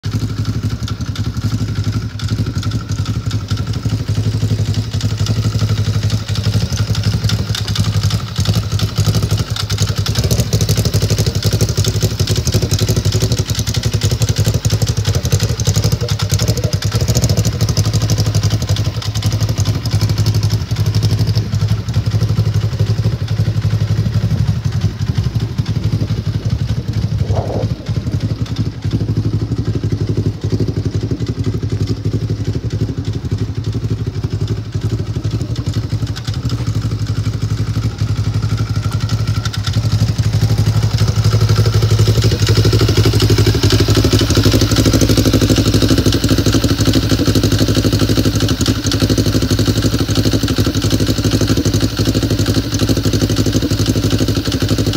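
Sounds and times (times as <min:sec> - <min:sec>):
engine idling: 0:00.0 - 0:54.9.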